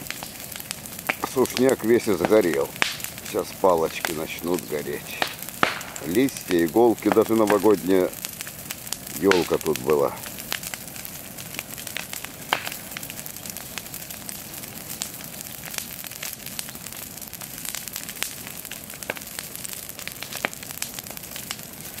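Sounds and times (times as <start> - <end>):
bonfire crackling and hissing: 0.0 - 22.0.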